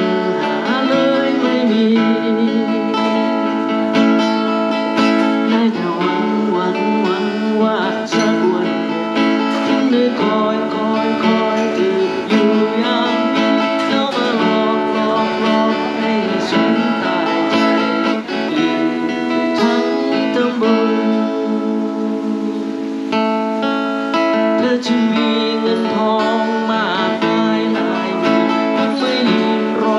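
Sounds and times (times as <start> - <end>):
acoustic guitar tune: 0.0 - 29.9.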